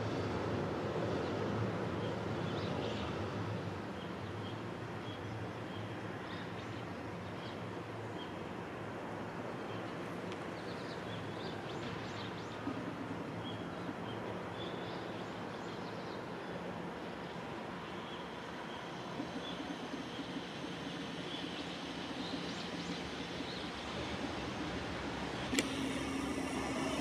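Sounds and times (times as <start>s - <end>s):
distant train running: 0.0s - 27.0s.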